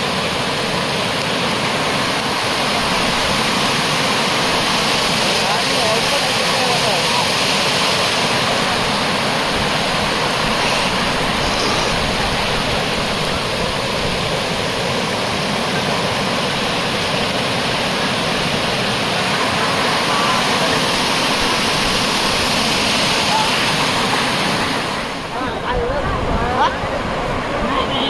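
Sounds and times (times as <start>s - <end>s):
waterfall rushing and splashing: 0.0s - 28.0s.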